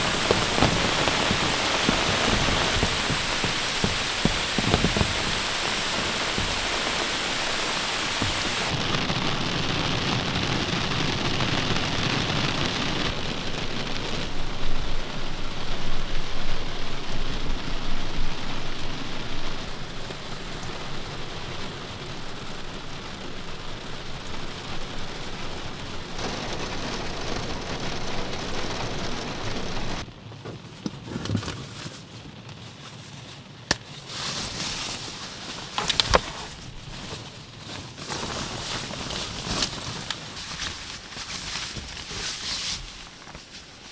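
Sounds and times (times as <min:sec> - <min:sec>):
heavy rain pouring: 0:00.0 - 0:30.4, 0:34.4 - 0:41.2.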